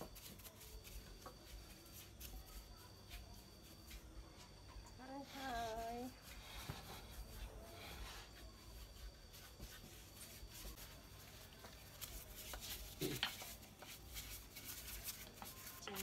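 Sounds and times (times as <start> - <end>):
paintbrush strokes on wood: 0.0 - 16.0.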